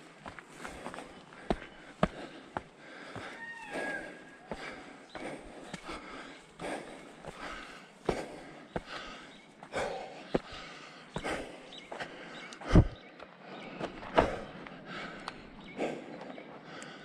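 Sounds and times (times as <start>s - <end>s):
footsteps on rocky dirt trail: 0.0s - 16.5s
person breathing hard: 0.2s - 17.0s.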